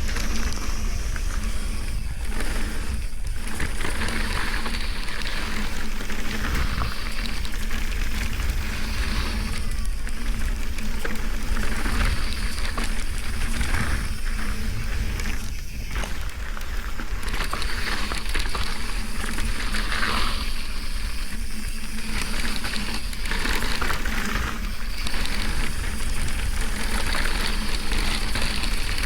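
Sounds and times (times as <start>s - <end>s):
mountain bike rolling and rattling: 0.0s - 29.0s.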